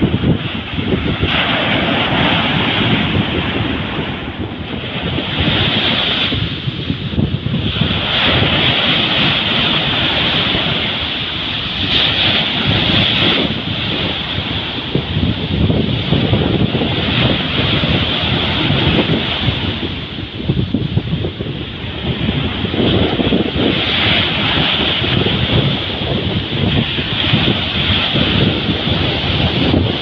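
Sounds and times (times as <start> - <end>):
small waves breaking on beach: 0.0 - 30.0
wind rumbling on microphone: 0.0 - 30.0.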